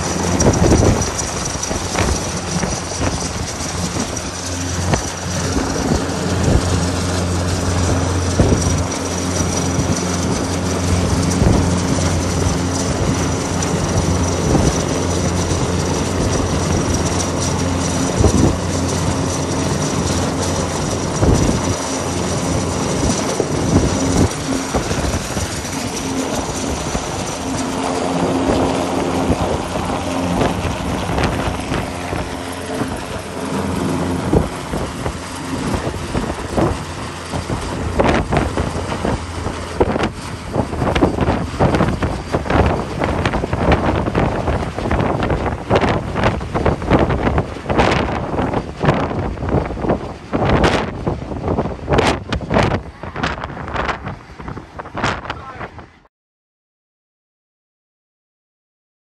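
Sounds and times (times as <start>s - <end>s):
high turbine whine: 0.0s - 56.0s
gale-force wind buffeting: 0.0s - 56.1s
helicopter rotor drone: 0.0s - 56.1s.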